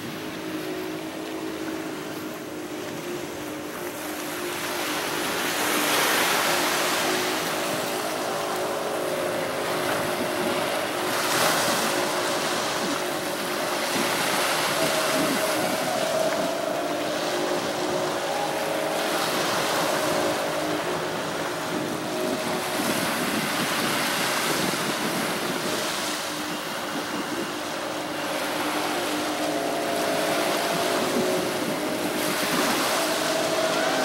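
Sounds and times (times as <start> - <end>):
boat engine hum: 0.0 - 34.0
waves washing onto beach: 0.0 - 34.0.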